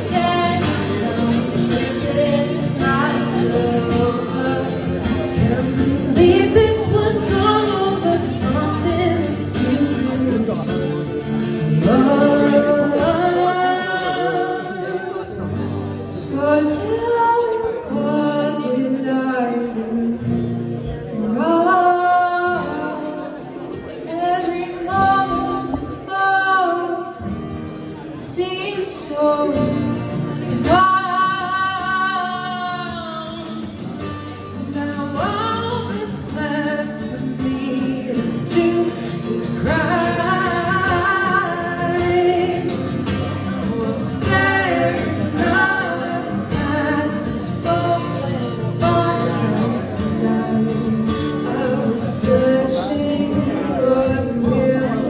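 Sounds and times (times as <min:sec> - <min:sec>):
man singing: 0:00.0 - 0:20.2, 0:30.3 - 0:55.0
woman singing: 0:00.0 - 0:27.4, 0:28.1 - 0:55.0
acoustic guitar: 0:00.0 - 0:55.0.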